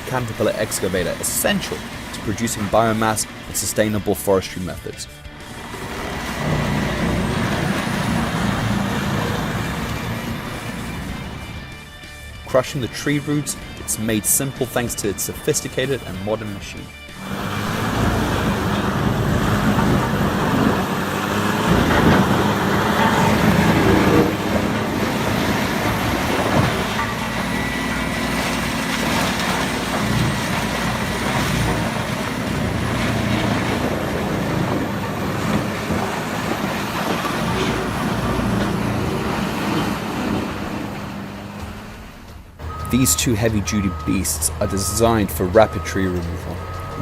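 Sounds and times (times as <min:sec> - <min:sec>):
heavy diesel engine under load: 0:00.0 - 0:47.0.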